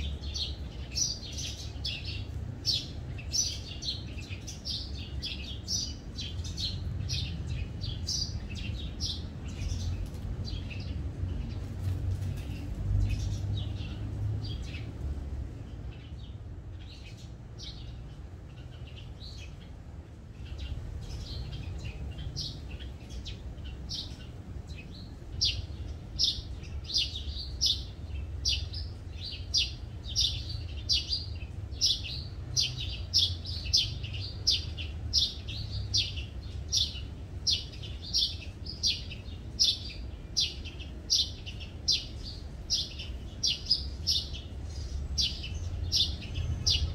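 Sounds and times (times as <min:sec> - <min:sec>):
small bird chirping: 0:00.0 - 0:15.0, 0:20.4 - 0:46.9.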